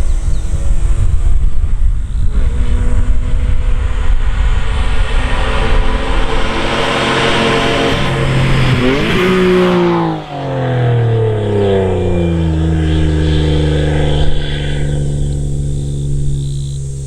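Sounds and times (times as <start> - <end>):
car engine at steady revs: 0.0 - 17.0.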